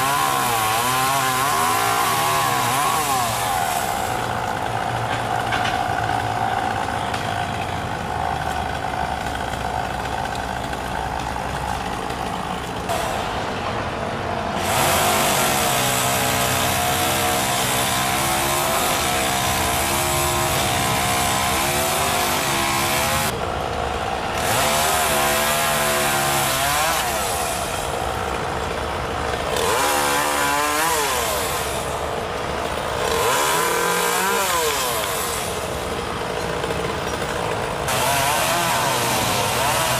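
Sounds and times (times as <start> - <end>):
gas chainsaw cutting branch: 0.0 - 13.6, 14.5 - 39.9.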